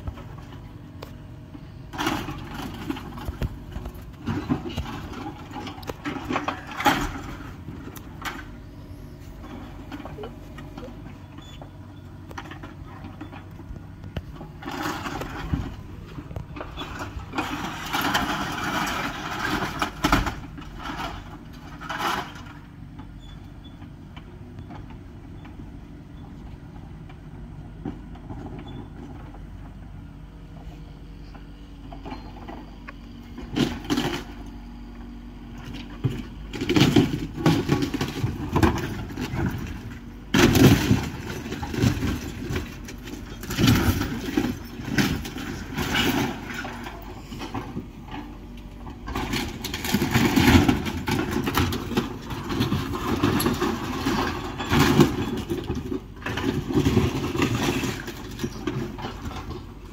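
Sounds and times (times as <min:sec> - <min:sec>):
crashing and crunching of debris: 0:00.0 - 0:11.5, 0:12.2 - 0:23.0, 0:32.0 - 0:59.9
excavator engine running: 0:00.0 - 0:59.9.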